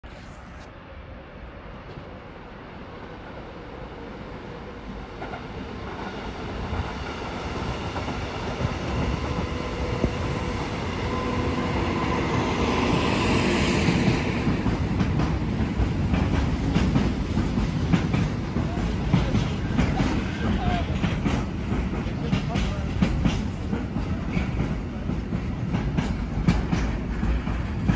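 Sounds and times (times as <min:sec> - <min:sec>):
electric locomotive whine and rumble: 0:00.0 - 0:27.9.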